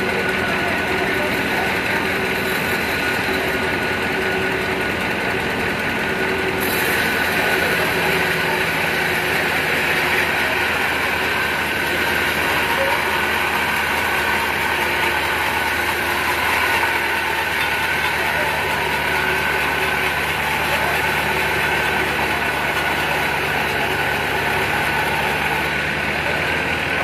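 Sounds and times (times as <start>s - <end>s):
band saw cutting log: 0.0s - 27.0s
machine hum: 0.0s - 27.0s.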